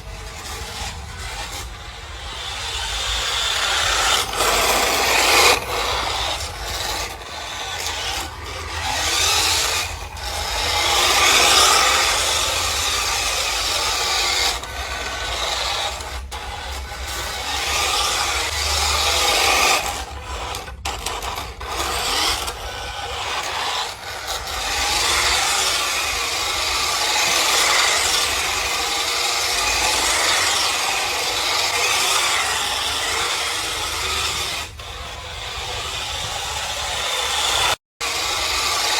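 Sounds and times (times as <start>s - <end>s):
toy car motor and gears whirring: 0.0s - 38.9s.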